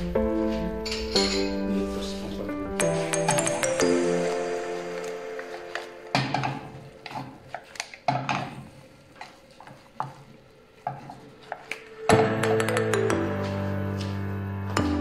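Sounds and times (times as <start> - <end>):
music: 0.0 - 8.0, 11.0 - 15.0.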